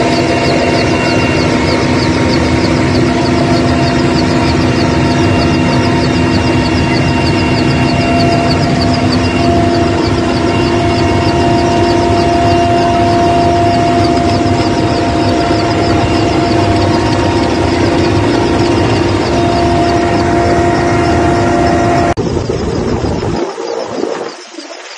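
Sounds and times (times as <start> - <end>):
helicopter whine: 0.0 - 24.8
fast high pitched pulsing: 0.0 - 24.9
rushing noise: 0.0 - 24.9.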